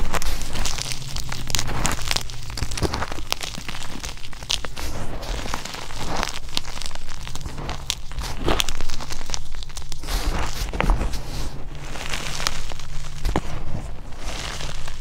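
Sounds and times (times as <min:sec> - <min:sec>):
hands crunching chalk powder: 0:00.0 - 0:15.0.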